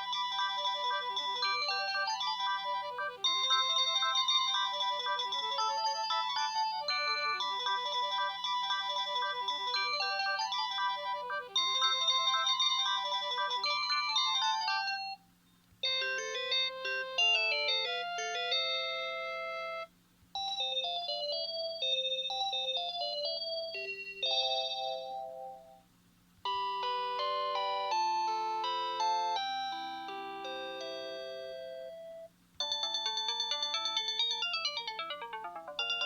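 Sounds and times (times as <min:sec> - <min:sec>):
cordless phone ringtone melodies: 0:00.0 - 0:15.2, 0:15.8 - 0:25.8, 0:26.4 - 0:36.0.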